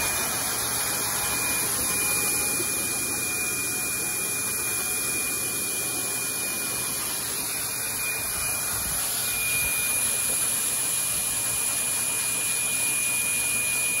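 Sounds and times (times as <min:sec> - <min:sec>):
dog grooming dryer blowing air: 0:00.0 - 0:14.0.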